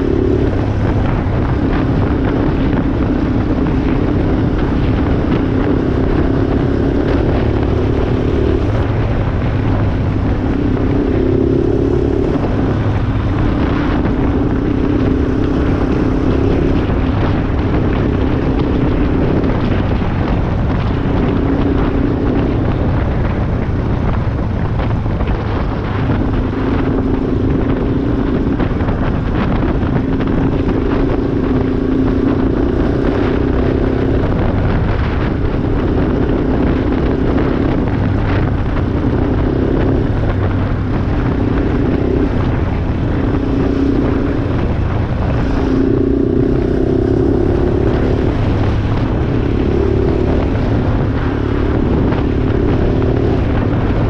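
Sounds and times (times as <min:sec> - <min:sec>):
quad bike engine running: 0:00.0 - 0:54.0
wind noise: 0:00.0 - 0:54.0.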